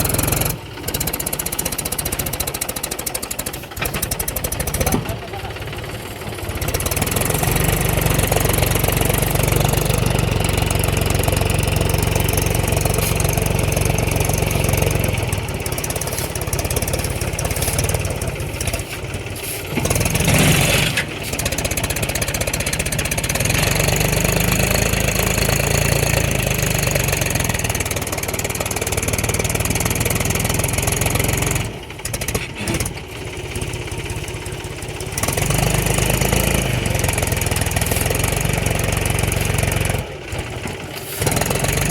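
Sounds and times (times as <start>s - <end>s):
tractor diesel engine straining: 0.0s - 41.9s.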